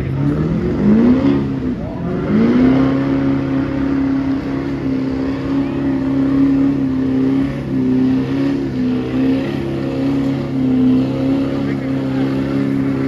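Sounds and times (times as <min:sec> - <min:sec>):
diesel truck engine revving high: 0:00.0 - 0:13.0.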